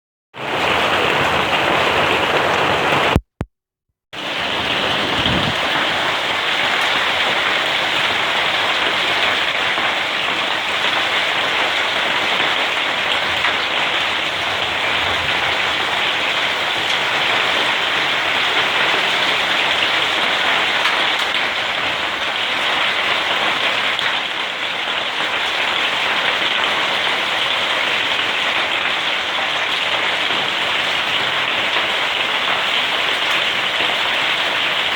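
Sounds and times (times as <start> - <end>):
hail and rain pelting down: 0.4 - 3.2, 4.2 - 34.9.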